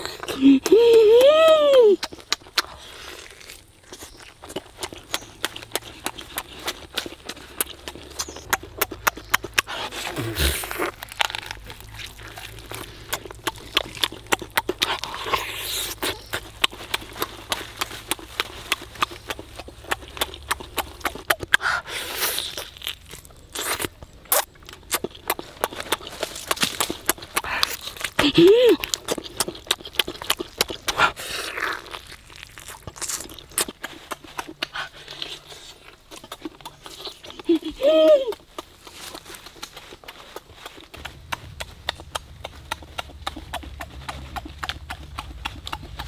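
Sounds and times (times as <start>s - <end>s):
chicken tearing: 0.0s - 46.0s
crunch: 0.0s - 46.0s
wet chewing and lip-smacking: 0.0s - 46.0s.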